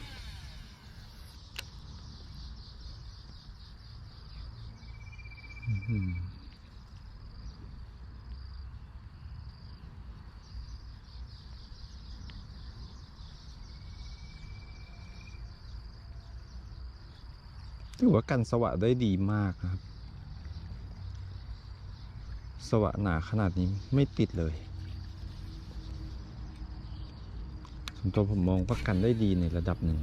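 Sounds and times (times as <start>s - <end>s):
insect chorus buzzing: 0.0s - 30.0s.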